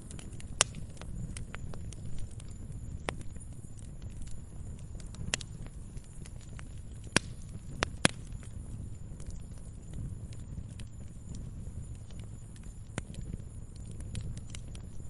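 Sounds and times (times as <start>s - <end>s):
campfire crackling: 0.0s - 15.0s
fire popping: 0.0s - 15.0s
low steady rumble: 0.0s - 15.0s.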